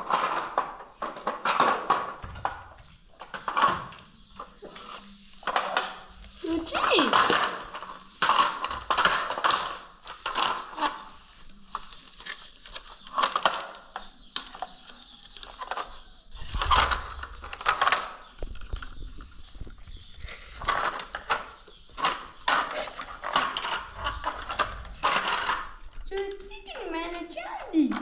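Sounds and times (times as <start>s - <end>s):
plastic toy clattering on tiles: 0.0s - 28.0s.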